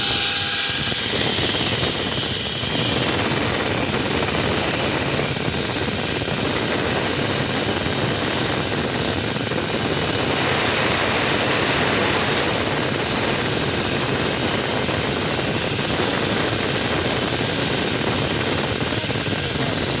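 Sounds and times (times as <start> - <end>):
concrete cutting machine hissing: 0.0 - 20.0.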